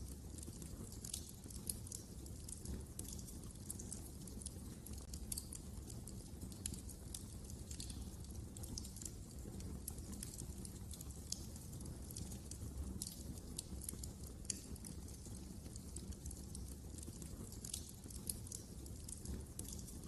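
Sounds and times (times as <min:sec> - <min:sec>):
low fire rumble: 0:00.0 - 0:20.0
wood fire crackling: 0:00.0 - 0:20.0.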